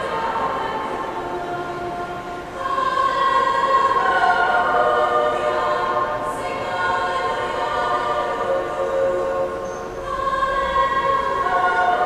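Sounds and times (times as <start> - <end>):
girls' choir singing: 0.0 - 12.0.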